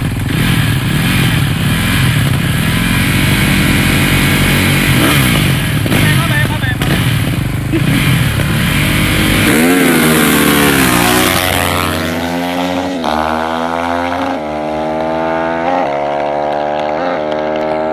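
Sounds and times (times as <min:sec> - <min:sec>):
dirt bike engines revving: 0:00.0 - 0:17.9.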